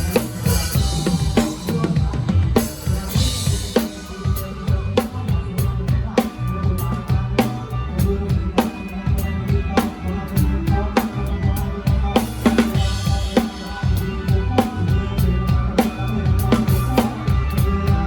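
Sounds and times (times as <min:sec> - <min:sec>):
drum kit playing: 0:00.0 - 0:18.0
full band playing: 0:00.0 - 0:18.0.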